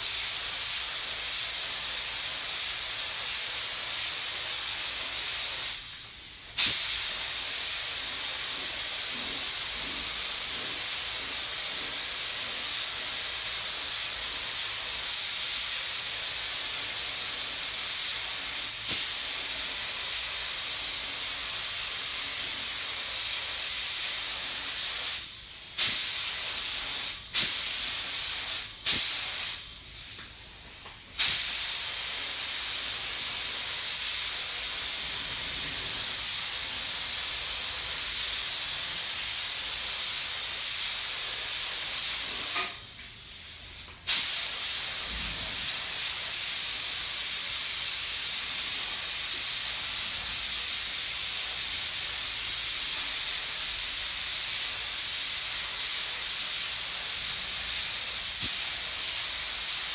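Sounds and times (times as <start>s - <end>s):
burst of air: 0.0s - 30.2s, 31.1s - 59.9s
paint spray gun hissing: 0.0s - 30.2s, 31.0s - 59.9s.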